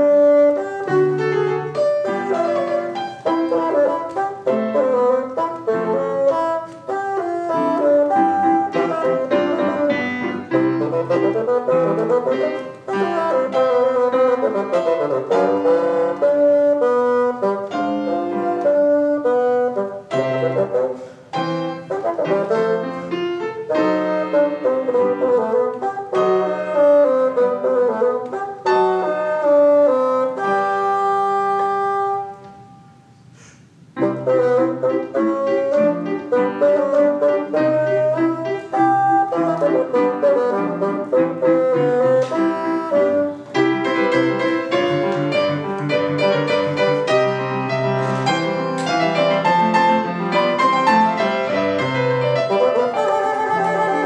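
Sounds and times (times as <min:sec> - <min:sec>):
bassoon playing classical music: 0:00.0 - 0:54.0
piano accompaniment: 0:00.0 - 0:54.0.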